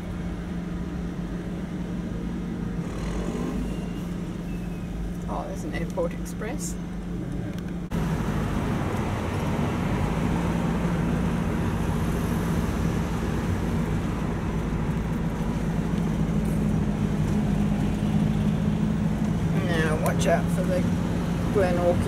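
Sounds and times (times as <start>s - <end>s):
low engine hum: 0.0s - 22.0s
tyre and road noise: 0.0s - 22.0s.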